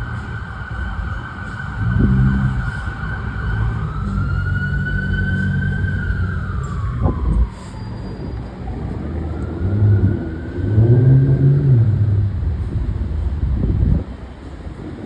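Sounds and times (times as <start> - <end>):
fire engine siren wailing: 0.0 - 12.6
truck engine rumble: 0.0 - 15.0.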